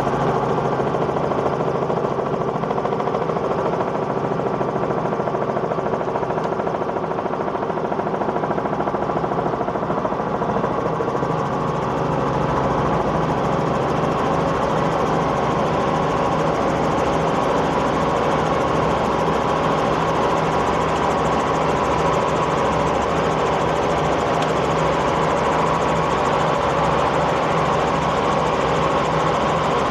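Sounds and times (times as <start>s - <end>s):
helicopter engine and rotor noise: 0.0s - 29.9s.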